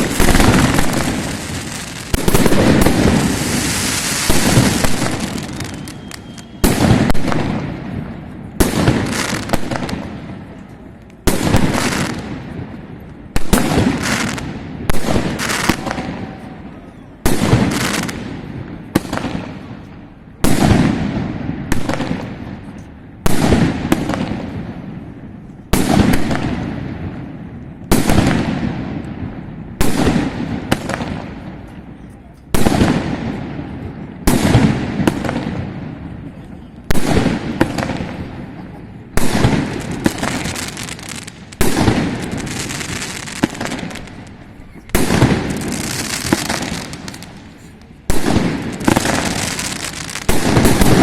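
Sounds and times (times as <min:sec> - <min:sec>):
fireworks bursting with echo: 0:00.0 - 0:51.0.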